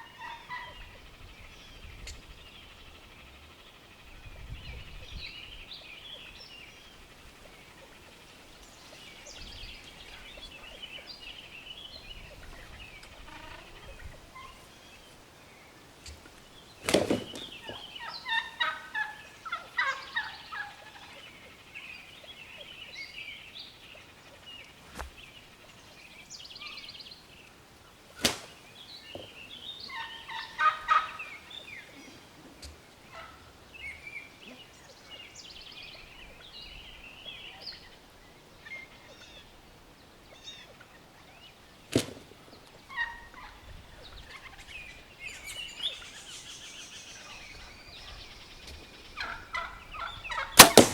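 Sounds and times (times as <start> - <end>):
turkeys gobbling: 0.0 - 1.2, 6.1 - 23.1, 26.7 - 35.0, 35.6 - 50.9.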